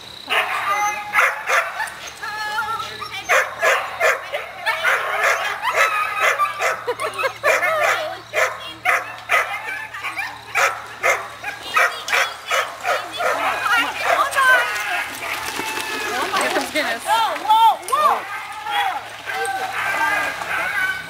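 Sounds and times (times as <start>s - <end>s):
dogs barking yipping and whining: 0.3s - 16.9s, 17.9s - 21.0s.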